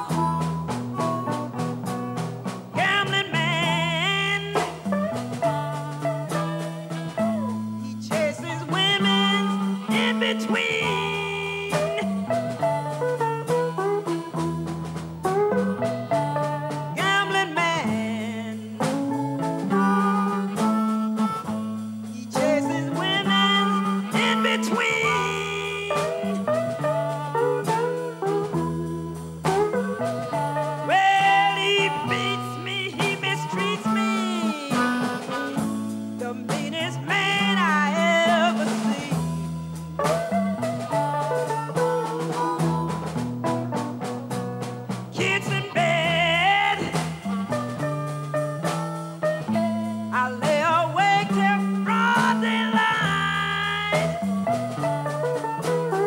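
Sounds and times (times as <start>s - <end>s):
woman singing: 0.0s - 1.4s, 2.7s - 14.6s, 15.3s - 43.9s, 45.1s - 56.0s
bass guitar walking line: 0.0s - 56.0s
drums: 0.0s - 56.0s
electric slide guitar: 0.0s - 56.0s.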